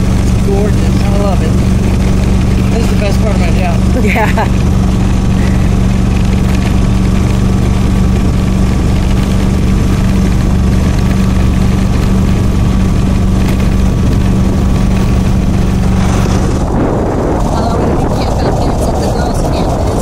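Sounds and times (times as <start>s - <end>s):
road and air noise: 0.0s - 20.0s
vehicle engine drone: 0.0s - 20.0s.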